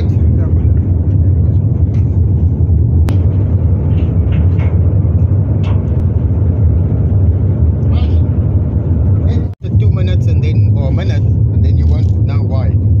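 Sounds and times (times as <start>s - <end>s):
ship machinery rumbling: 0.0s - 13.0s.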